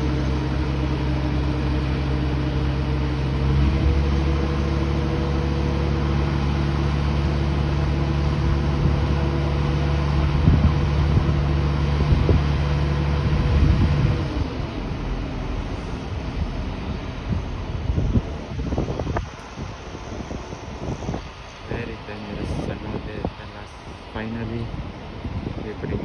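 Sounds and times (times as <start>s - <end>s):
heavy machine engine running: 0.0s - 26.0s
wind noise: 2.9s - 14.8s, 15.6s - 26.0s.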